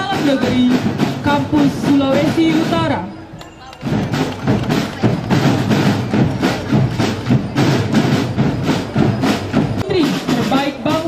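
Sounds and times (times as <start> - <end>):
marching snare and bass drums: 0.0 - 3.1, 3.8 - 11.0.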